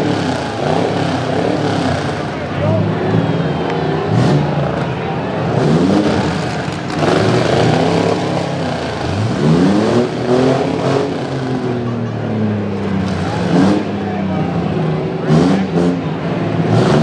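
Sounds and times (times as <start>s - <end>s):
truck engines revving hard: 0.0s - 17.0s.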